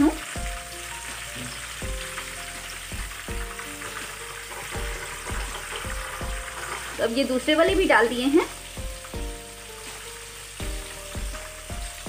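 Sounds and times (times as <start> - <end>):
chicken deep-frying in oil: 0.0 - 12.0
soft background music: 0.0 - 12.0.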